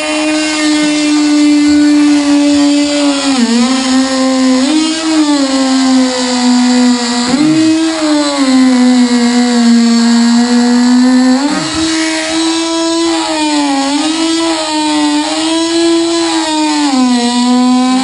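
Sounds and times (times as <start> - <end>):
power cutting tool buzzing: 0.0 - 18.0.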